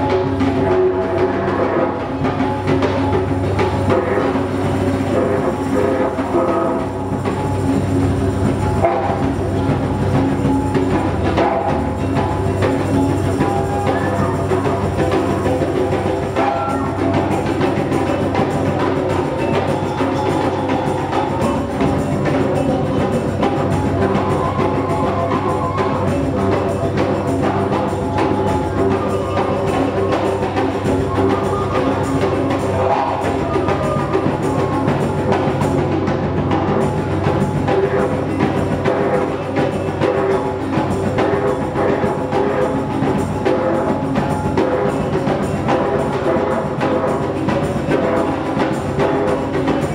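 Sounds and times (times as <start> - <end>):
didgeridoo drone: 0.0 - 49.9
hand percussion rhythm: 0.0 - 49.9.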